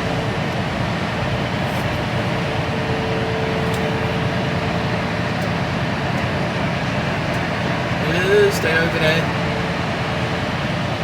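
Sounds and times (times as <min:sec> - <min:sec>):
faint steady whine: 0:00.0 - 0:11.0
lorry engine and road noise: 0:00.0 - 0:11.0.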